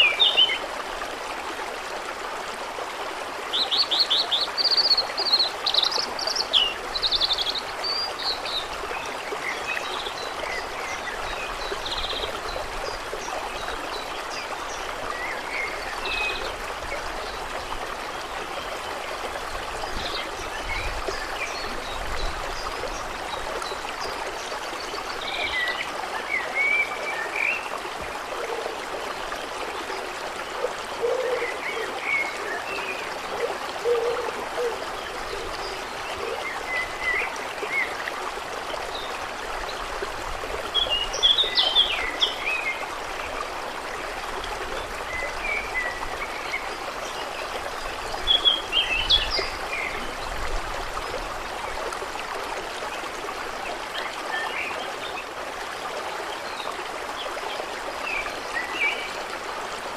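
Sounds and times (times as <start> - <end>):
trickling flowing water: 0.0 - 59.9.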